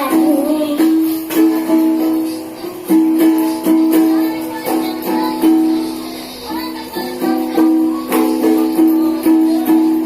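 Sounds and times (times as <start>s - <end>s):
ukulele strumming chords: 0.0s - 10.0s.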